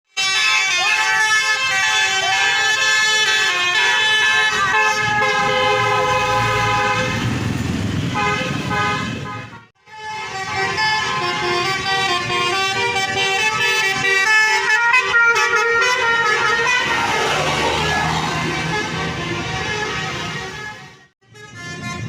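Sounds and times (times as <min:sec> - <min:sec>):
bus multi-tone horns playing tune: 0:00.1 - 0:22.0.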